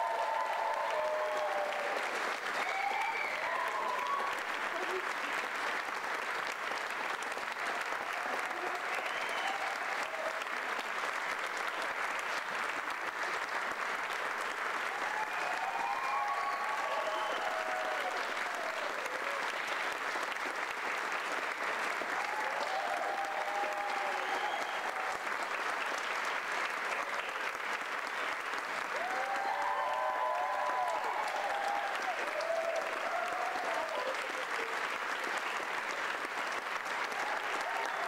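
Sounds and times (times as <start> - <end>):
audience applauding: 0.0 - 38.0.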